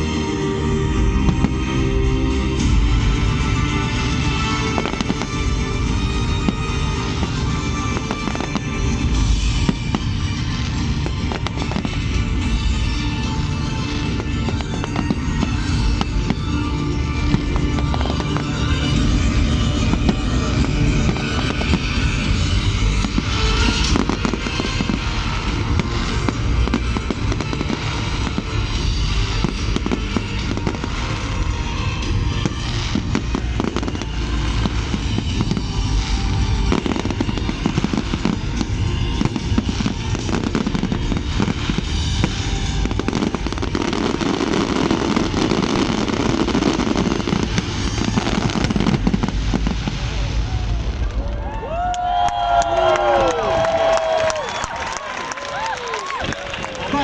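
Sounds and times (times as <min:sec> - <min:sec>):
fireworks bangs and crackles: 0:00.0 - 0:57.0
music playing: 0:00.0 - 0:57.0.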